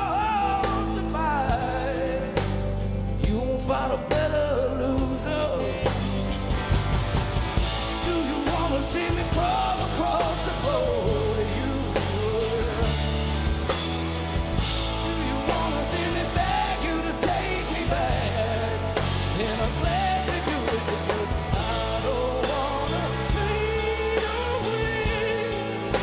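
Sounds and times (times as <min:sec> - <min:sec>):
person singing: 0:00.0 - 0:06.0, 0:07.8 - 0:13.4, 0:14.8 - 0:26.0
live rock band playing: 0:00.0 - 0:26.0.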